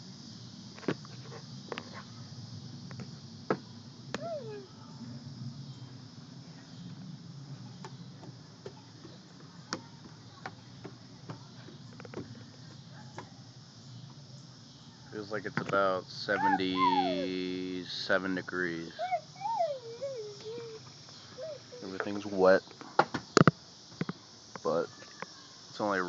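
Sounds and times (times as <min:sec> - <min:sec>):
insect chorus: 0:00.0 - 0:26.0.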